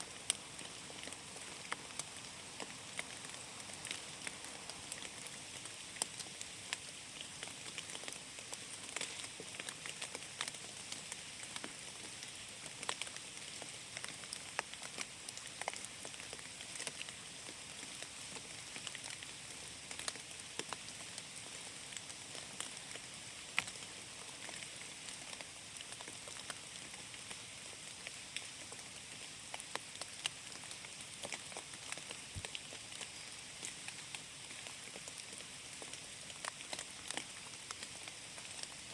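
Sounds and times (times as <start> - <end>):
rain on foliage: 0.0 - 38.9
drops ticking on leaves: 0.1 - 38.9.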